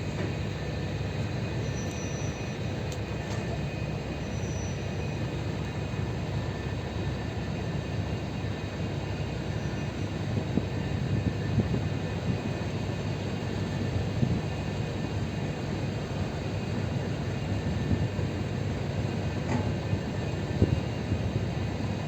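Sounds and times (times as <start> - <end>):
ship engine low rumble: 0.0 - 22.0.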